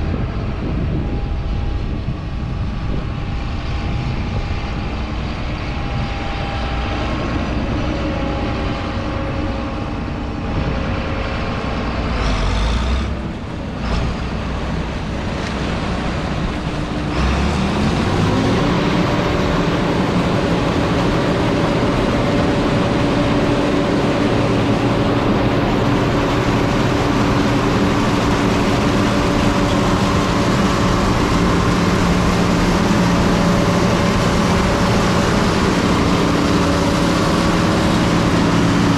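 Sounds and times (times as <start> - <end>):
combine harvester engine and machinery: 0.0 - 38.9.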